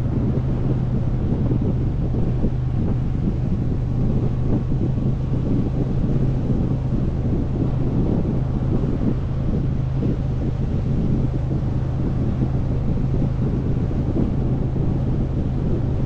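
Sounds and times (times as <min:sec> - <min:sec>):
motorcycle engine cruising: 0:00.0 - 0:16.0
wind buffeting microphone: 0:00.0 - 0:16.0.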